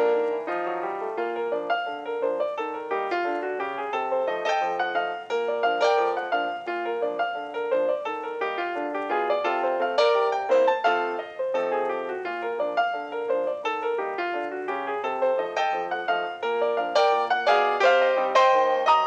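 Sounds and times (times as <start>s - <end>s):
lively piano music: 0.0s - 19.0s.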